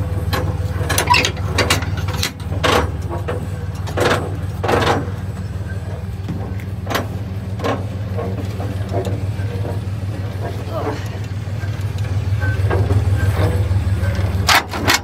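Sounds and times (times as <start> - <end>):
pickup truck engine idling: 0.0 - 15.0
trailer hitch chains clanking: 0.0 - 15.0.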